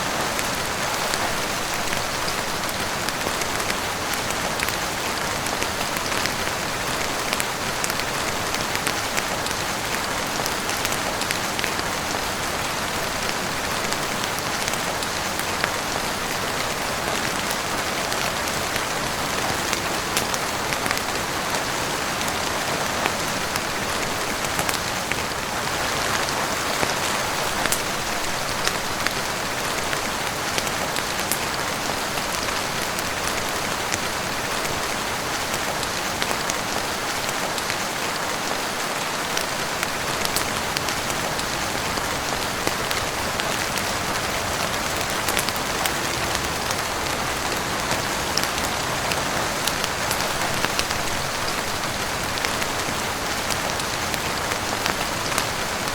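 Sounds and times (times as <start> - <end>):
heavy rain on roof and windows: 0.0 - 55.9
sharp rain ticks: 0.1 - 55.9.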